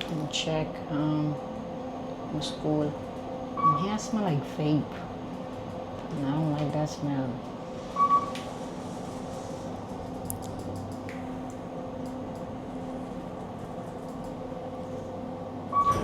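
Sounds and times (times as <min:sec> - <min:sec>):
elevator mechanical hum: 0:00.0 - 0:16.0.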